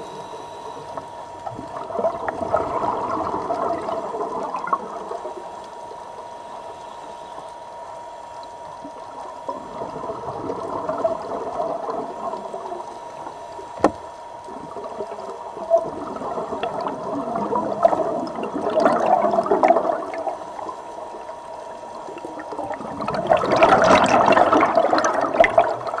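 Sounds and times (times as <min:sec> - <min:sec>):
faint steady tone: 0:00.0 - 0:26.0
muffled underwater noise: 0:00.0 - 0:26.0
air bubbles bubbling: 0:00.8 - 0:05.5, 0:08.8 - 0:26.0.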